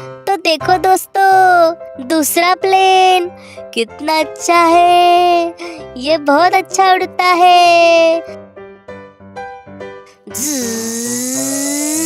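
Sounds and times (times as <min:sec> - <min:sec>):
light children's music: 0:00.0 - 0:12.0.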